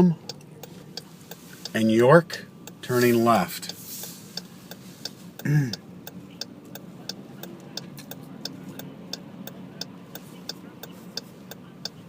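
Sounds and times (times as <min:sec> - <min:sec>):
car hum in motion: 0:00.0 - 0:12.0
turn signal ticking: 0:00.0 - 0:12.0.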